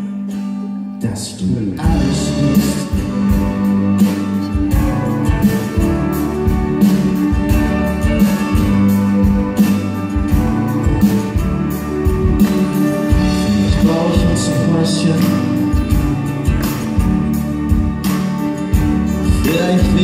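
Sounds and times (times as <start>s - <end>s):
acoustic guitar strumming: 0.0s - 20.0s
steady beat: 1.8s - 20.0s.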